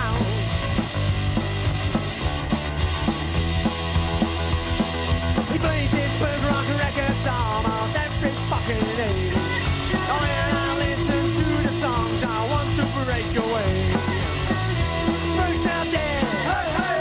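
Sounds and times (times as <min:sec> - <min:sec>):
punk rock song: 0:00.0 - 0:17.0.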